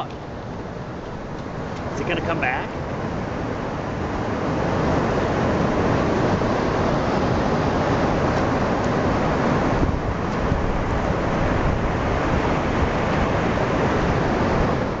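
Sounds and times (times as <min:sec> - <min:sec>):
wind: 0:00.0 - 0:15.0
wind buffeting the microphone: 0:00.0 - 0:15.0
surf: 0:01.4 - 0:15.0.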